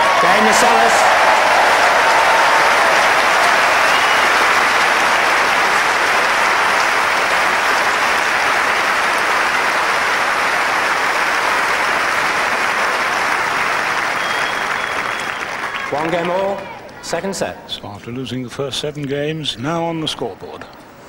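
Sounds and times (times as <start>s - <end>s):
crowd applauding: 0.0s - 16.9s.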